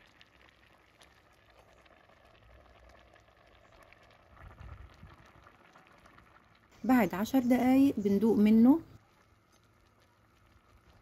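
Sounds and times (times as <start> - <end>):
beans boiling in pot: 0.0 - 11.0.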